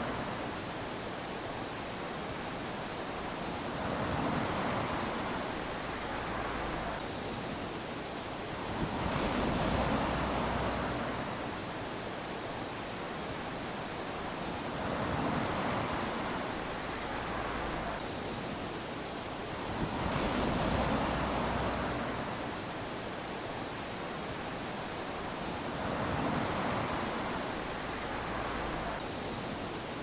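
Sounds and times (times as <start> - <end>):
small waves lapping on beach: 0.0 - 30.0.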